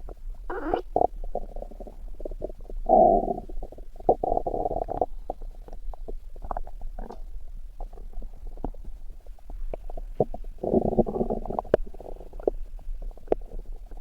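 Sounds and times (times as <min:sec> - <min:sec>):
stomach growling and gurgling: 0:00.0 - 0:14.0.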